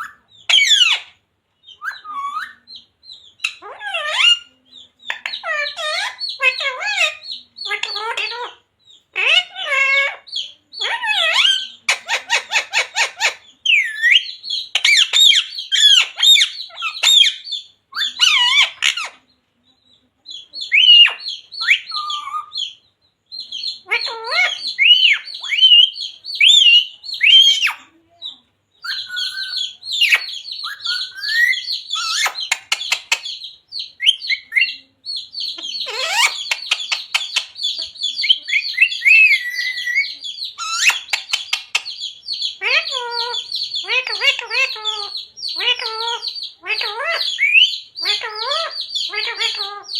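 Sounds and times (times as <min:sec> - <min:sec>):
parrot squawking and chattering: 0:00.0 - 0:19.3, 0:20.2 - 0:49.9.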